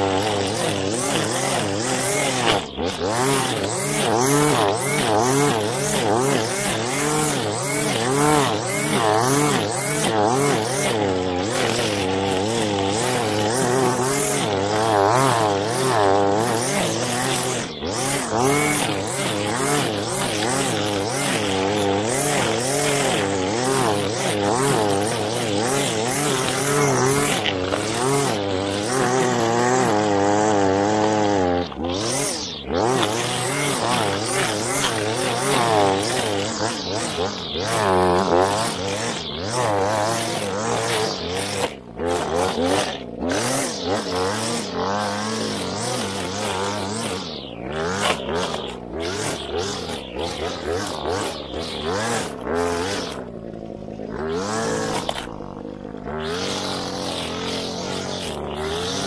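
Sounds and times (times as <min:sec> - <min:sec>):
string trimmer cutting grass: 0:00.0 - 0:59.0.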